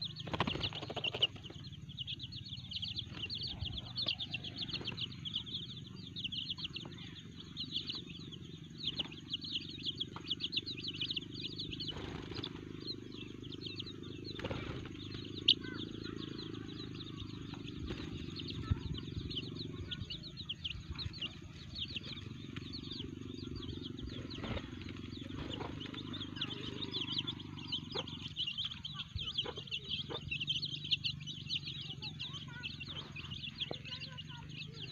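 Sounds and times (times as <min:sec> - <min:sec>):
chicks peeping: 0:00.0 - 0:34.9
steady low hum: 0:00.0 - 0:34.9.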